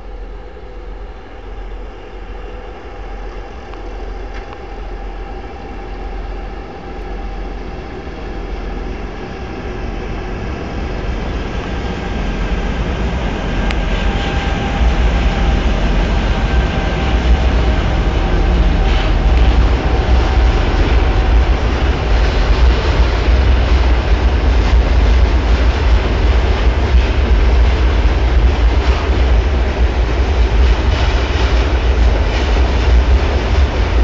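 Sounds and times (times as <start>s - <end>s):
diesel locomotive engines throbbing: 0.0s - 34.0s.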